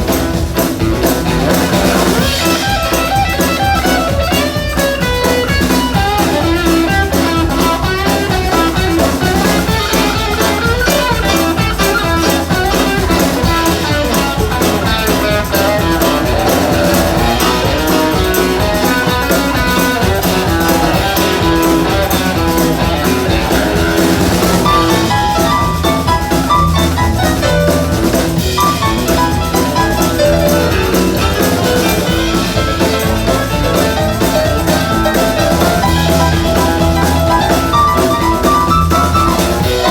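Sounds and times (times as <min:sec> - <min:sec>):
drum kit beat: 0:00.0 - 0:39.9
guitar: 0:00.0 - 0:39.9
live band playing: 0:00.0 - 0:39.9.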